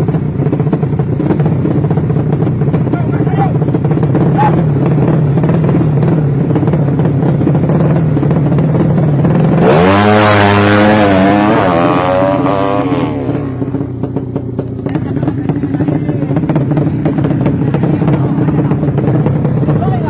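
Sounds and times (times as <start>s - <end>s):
motorcycle engine revving hard: 0.0s - 20.0s
motorcycle engines running: 0.0s - 20.0s.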